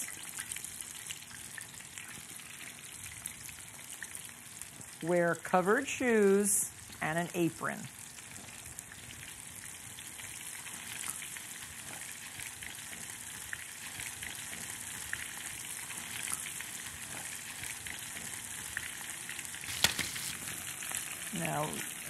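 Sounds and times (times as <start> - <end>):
chicken sizzling in oil: 0.0 - 7.0, 7.8 - 22.0.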